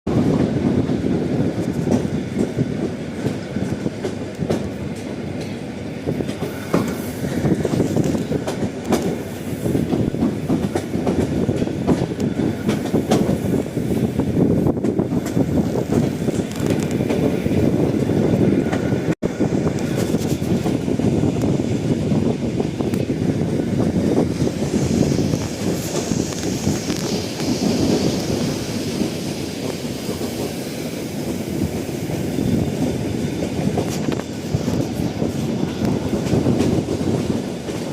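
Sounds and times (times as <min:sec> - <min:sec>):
train wheels clattering on rails: 0:00.1 - 0:37.9.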